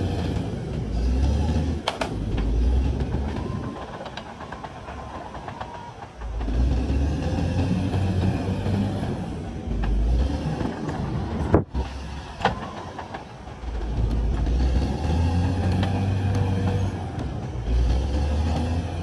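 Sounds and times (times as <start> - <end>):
bulldozer diesel engine running hard: 0.0 - 19.0.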